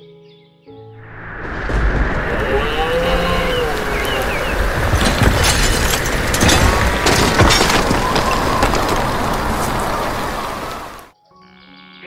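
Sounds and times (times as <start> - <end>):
storm crashes: 1.0 - 11.1
wind and rain rushing: 1.0 - 11.1.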